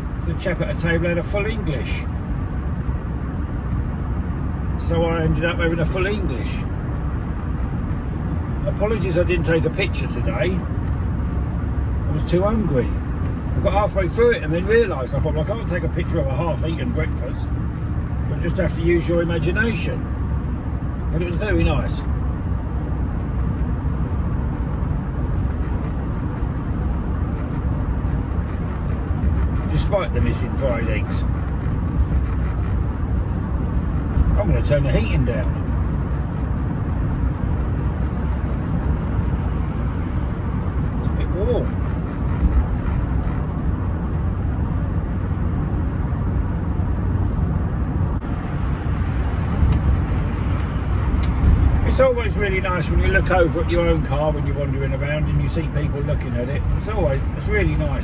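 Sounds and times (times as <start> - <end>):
road and engine rumble in car cabin: 0.0 - 58.0.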